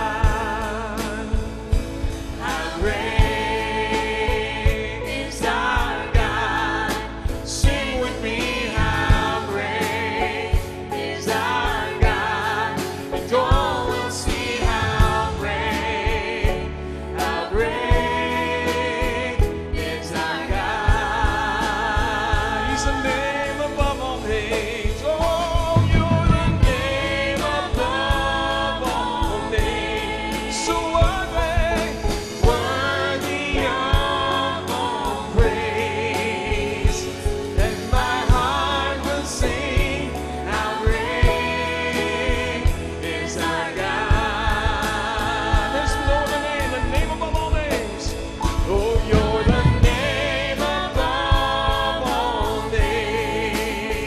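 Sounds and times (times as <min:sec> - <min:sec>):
drum kit beat: 0:00.0 - 0:54.0
voices singing together: 0:00.0 - 0:54.0.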